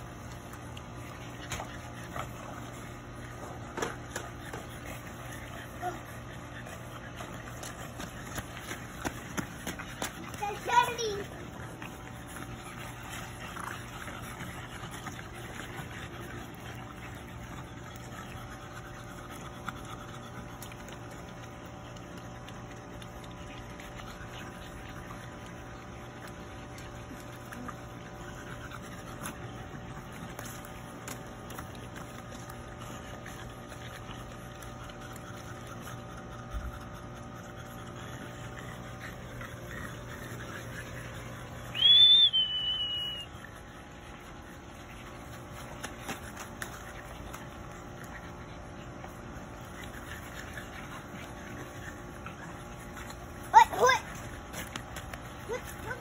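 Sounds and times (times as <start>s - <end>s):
dogs panting: 0.0s - 56.0s
steady low hum: 0.0s - 56.0s.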